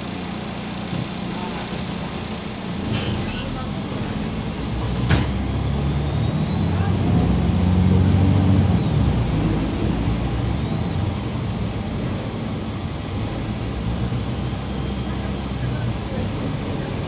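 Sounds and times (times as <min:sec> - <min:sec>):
bus engine accelerating: 0:00.0 - 0:17.0.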